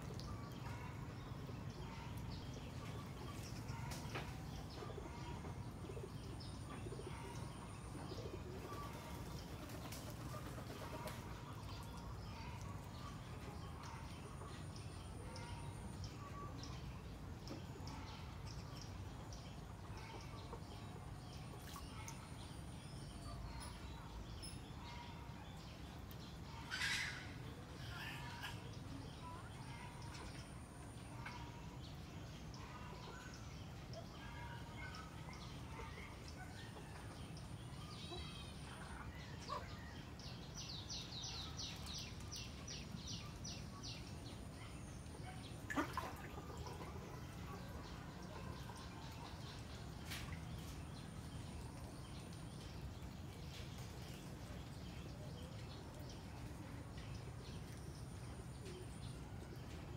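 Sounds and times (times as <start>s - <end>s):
low background noise: 0.0s - 59.9s
steady low background noise: 0.0s - 59.9s.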